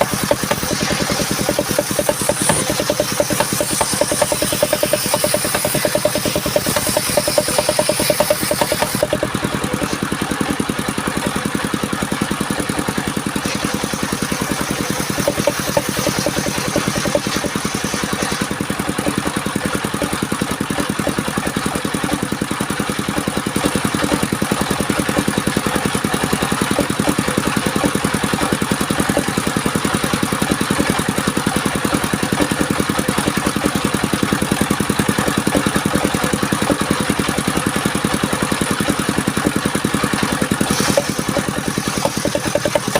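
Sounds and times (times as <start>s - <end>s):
combustion engine running steadily: 0.0s - 42.9s.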